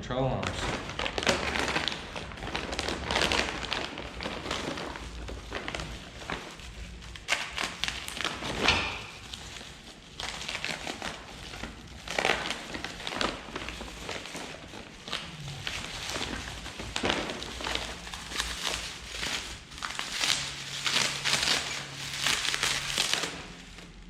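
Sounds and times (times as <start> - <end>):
packaging crackling and rustling: 0.4 - 24.0.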